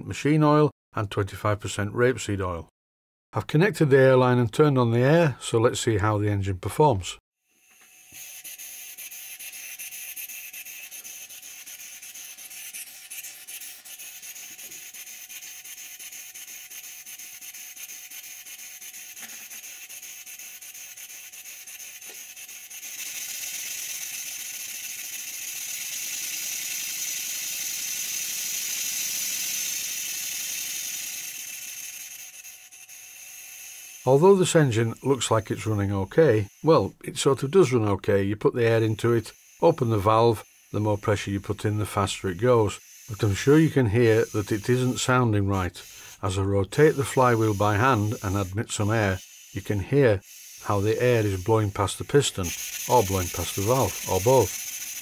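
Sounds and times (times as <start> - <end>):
model steam engine hissing: 8.0 - 37.9, 38.5 - 55.0.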